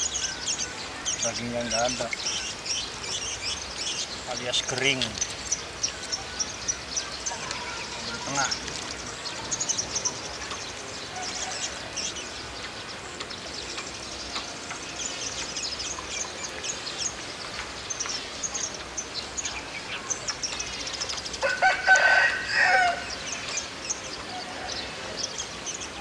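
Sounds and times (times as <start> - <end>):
small birds twittering: 0.0 - 26.0.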